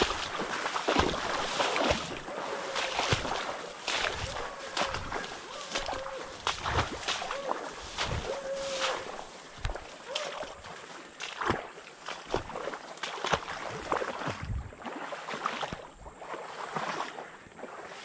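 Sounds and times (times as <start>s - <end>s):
footsteps wading through water: 0.0s - 18.0s.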